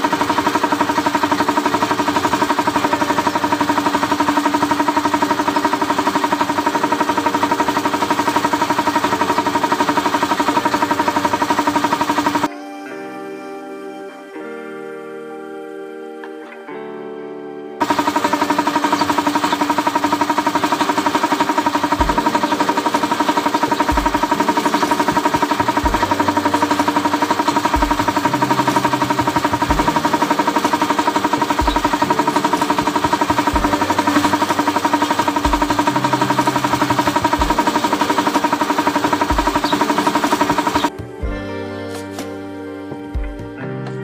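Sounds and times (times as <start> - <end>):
buzzing engine-like drone: 0.0 - 12.5, 17.8 - 41.3.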